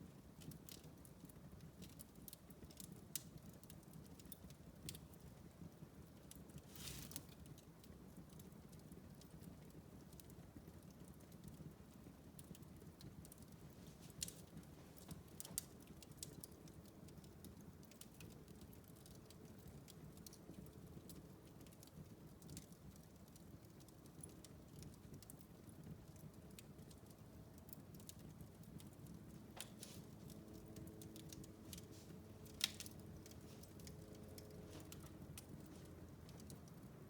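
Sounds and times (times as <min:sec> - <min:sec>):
low rumble of flames: 0:00.0 - 0:37.0
wood fire crackling: 0:00.0 - 0:37.0
fire pops and snaps: 0:00.1 - 0:37.0.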